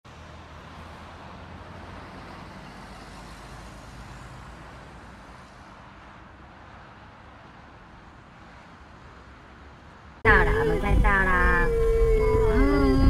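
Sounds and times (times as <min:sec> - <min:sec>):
engines idling in traffic: 0:00.1 - 0:13.0.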